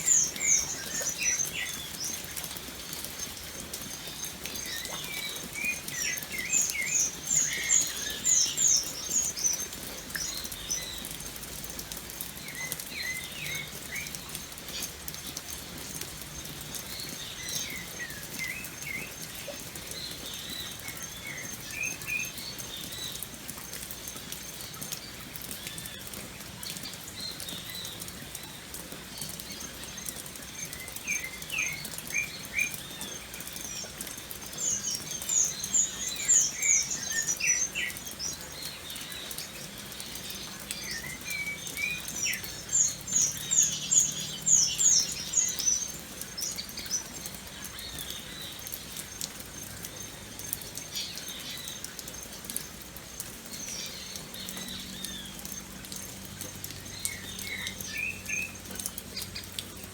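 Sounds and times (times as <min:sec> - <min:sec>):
birds chirping: 0:00.0 - 0:59.9
rain pattering: 0:00.0 - 0:59.9.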